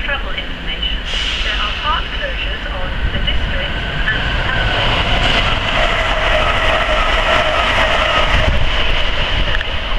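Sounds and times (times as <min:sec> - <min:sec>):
train rumbling past: 0:00.0 - 0:09.9.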